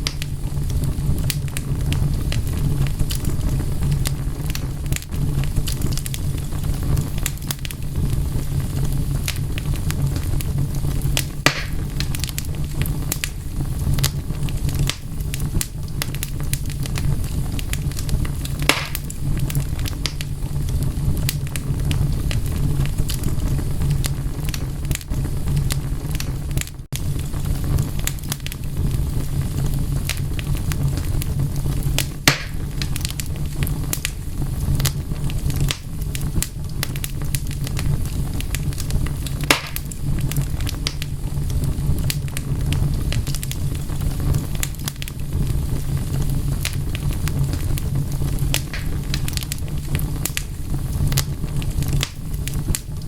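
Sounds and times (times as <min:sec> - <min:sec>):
low rumble of burning: 0:00.0 - 0:53.0
wood fire crackling and popping: 0:00.0 - 0:53.0.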